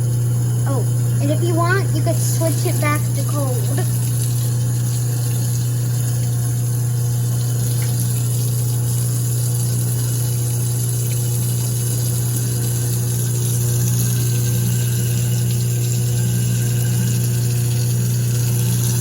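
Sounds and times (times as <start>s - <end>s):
garbage disposal humming: 0.0s - 19.0s
tap water running into drain: 0.0s - 19.0s.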